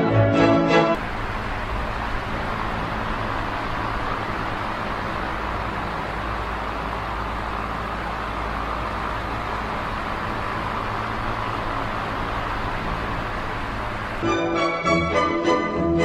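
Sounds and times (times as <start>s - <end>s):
low motor hum: 1.0s - 14.6s
desk fan rushing air: 1.0s - 14.7s.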